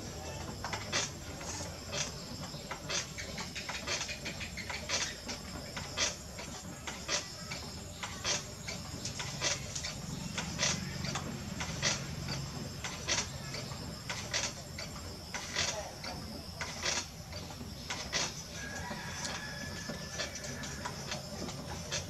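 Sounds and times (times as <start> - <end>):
potter's wheel humming: 0.0 - 22.0.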